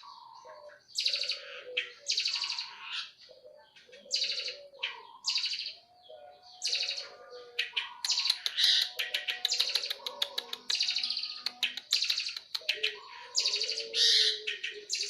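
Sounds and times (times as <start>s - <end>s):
sparrows chirping harshly: 0.0s - 15.0s.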